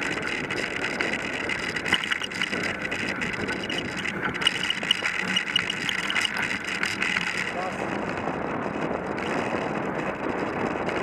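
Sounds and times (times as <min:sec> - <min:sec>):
bicycle tyres on gravel: 0:00.0 - 0:11.0
bike rattles and clicks: 0:00.0 - 0:11.0.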